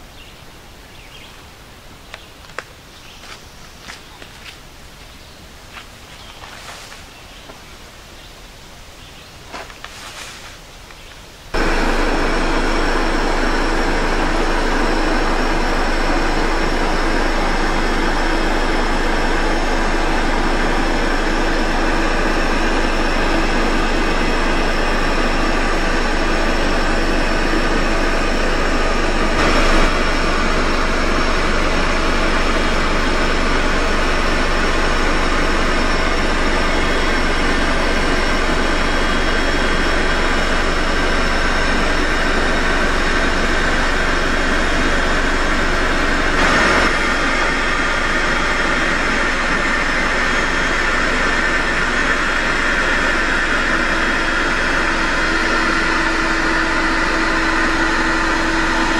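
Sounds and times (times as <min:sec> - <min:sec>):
electric air pump running: 0:11.5 - 0:58.9.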